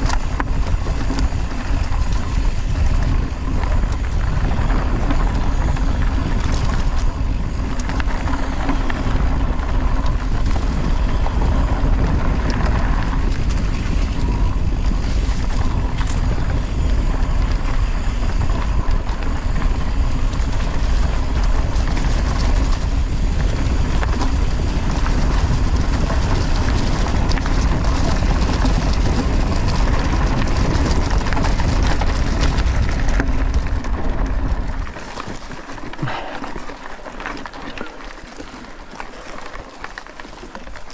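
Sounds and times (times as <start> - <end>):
wind buffeting microphone: 0.0 - 39.9
bike tyres rumbling and rattling: 0.0 - 40.9.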